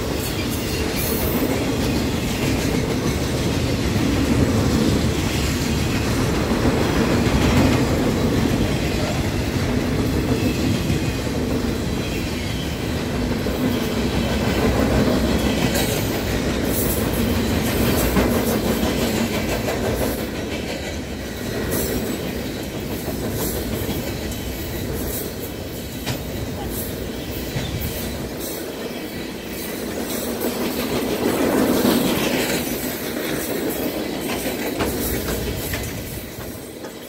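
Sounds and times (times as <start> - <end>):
freight train wheels rumbling: 0.0 - 37.0
wheels clicking over rail joints: 0.0 - 37.0.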